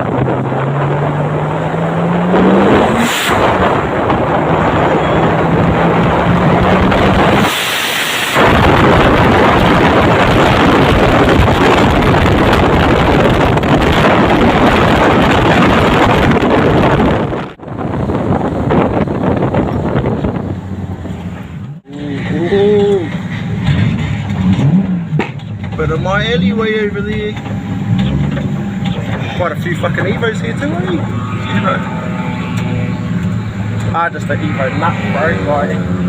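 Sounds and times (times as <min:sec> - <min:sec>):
tyre and wind rush: 0:00.0 - 0:33.9
car engine revving: 0:00.0 - 0:36.0.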